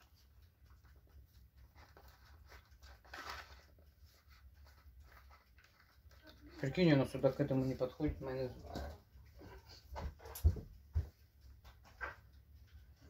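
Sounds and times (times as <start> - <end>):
faint plastic rustling: 0.0 - 13.0.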